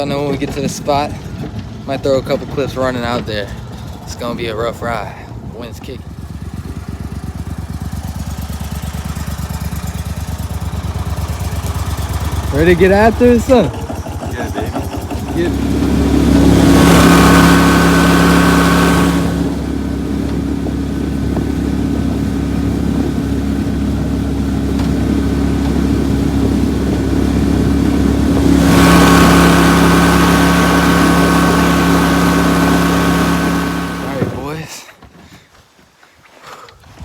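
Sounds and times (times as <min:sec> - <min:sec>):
boat motor running: 0:00.0 - 0:34.7.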